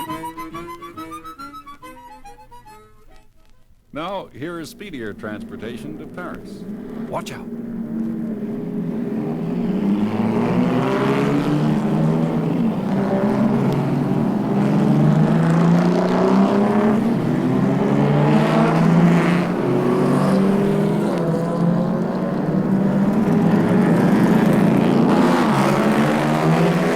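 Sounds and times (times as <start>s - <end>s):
car engines revving past: 4.8s - 26.9s.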